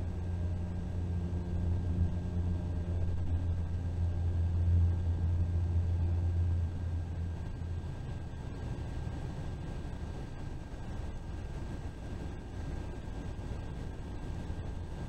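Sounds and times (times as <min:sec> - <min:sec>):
bus engine and road rumble: 0:00.0 - 0:15.0
faint thin whine: 0:00.0 - 0:15.0.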